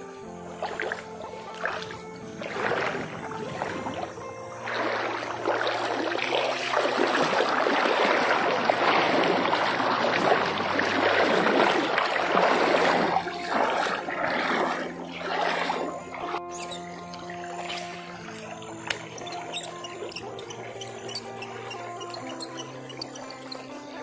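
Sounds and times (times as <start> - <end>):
fish splashing in river water: 0.6 - 23.9.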